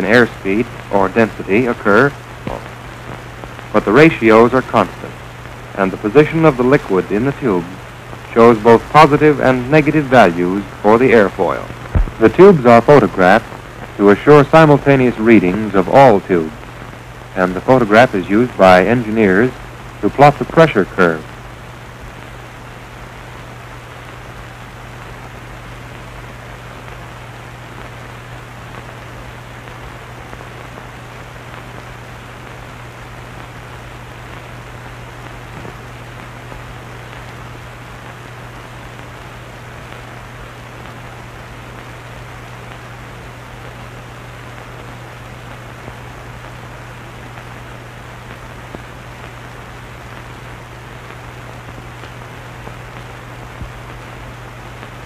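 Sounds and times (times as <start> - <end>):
film soundtrack hiss: 0.0 - 55.0.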